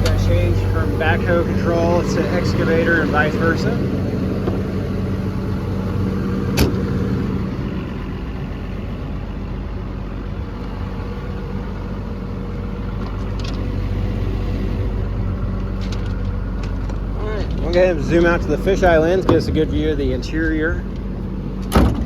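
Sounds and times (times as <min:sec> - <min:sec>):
diesel excavator idling: 0:00.0 - 0:22.0.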